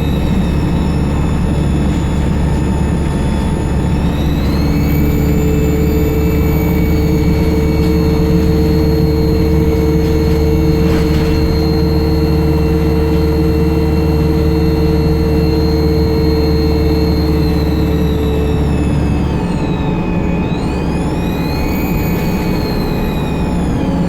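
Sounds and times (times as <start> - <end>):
bus engine rumble: 0.0 - 24.0
turbocharger whistle: 0.0 - 24.0.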